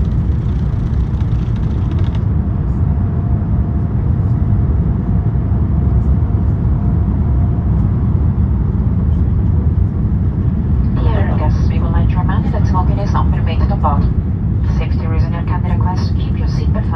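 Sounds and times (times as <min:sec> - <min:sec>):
airplane cabin engine rumble: 0:00.0 - 0:16.9.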